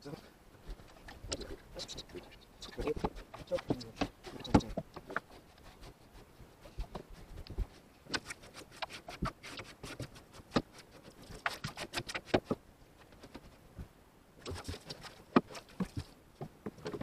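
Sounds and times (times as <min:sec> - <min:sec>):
rustling: 0:00.5 - 0:17.0.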